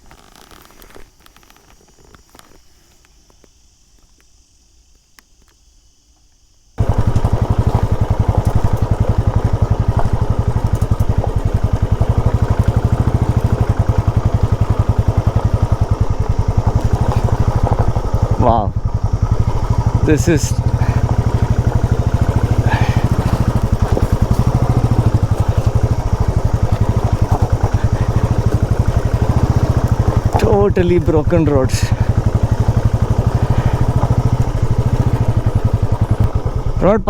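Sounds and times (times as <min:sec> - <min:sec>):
faint insect chirr: 0:00.0 - 0:37.0
motorcycle engine running: 0:06.8 - 0:37.0.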